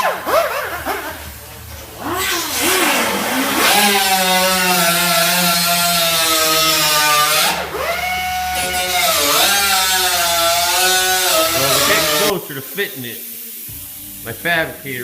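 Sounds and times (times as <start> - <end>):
power tool motor running: 0.0 - 12.3.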